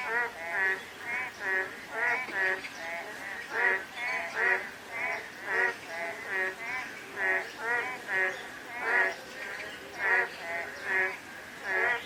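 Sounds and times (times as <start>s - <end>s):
frogs croaking: 0.0s - 12.0s.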